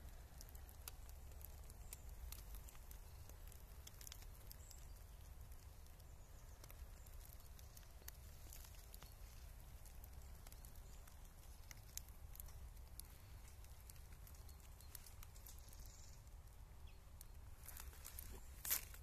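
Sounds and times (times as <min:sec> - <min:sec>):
faint ticks and crackles: 0:00.0 - 0:19.0.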